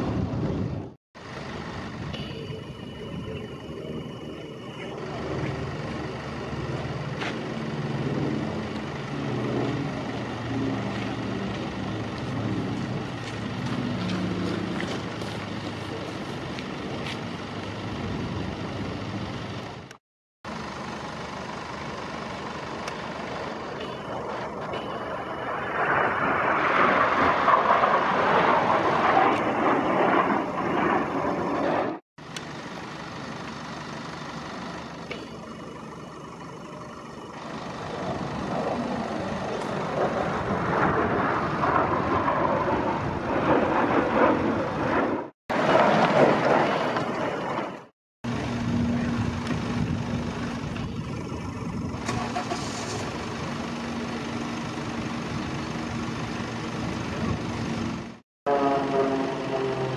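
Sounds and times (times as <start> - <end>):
propeller aircraft flying overhead: 0.0 - 59.9.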